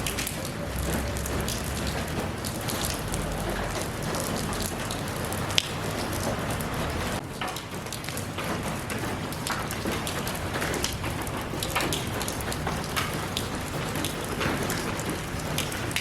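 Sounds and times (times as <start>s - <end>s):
rain falling: 0.0s - 16.0s
raindrops tapping: 0.0s - 16.0s.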